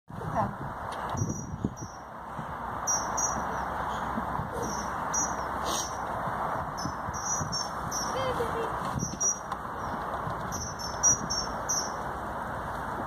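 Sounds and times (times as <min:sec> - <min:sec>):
steady background noise: 0:00.1 - 0:13.0
songbirds chirping: 0:01.1 - 0:12.2.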